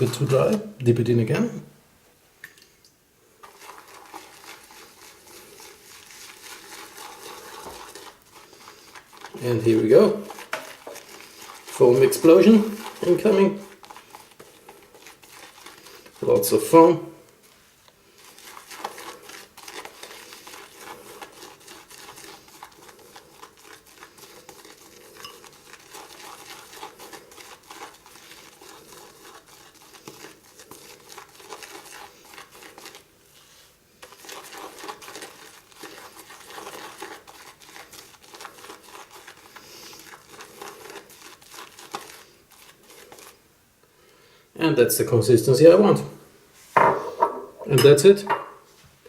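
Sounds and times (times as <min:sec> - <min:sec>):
shaving brush swishing lather: 0:03.4 - 0:43.4.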